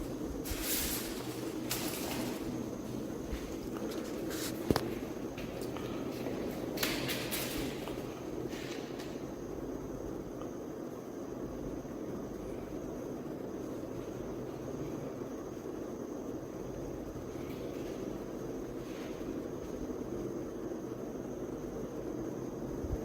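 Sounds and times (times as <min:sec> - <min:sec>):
low hum and hiss of room noise: 0:00.0 - 0:23.0.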